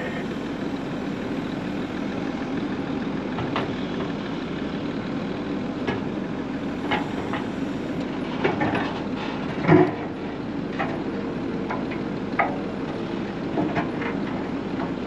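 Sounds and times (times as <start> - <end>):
excavator diesel engine idling: 0.0 - 15.0.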